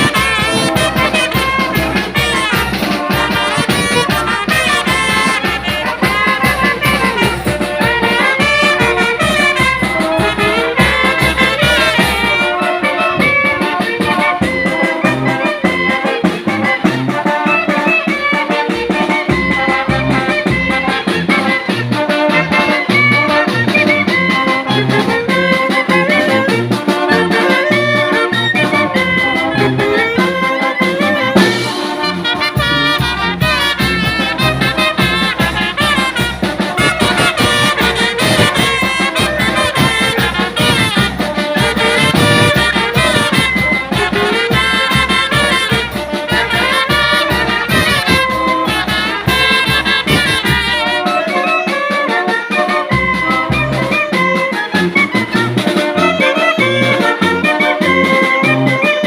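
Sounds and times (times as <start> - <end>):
trumpets and trombones melody: 0.0 - 59.0.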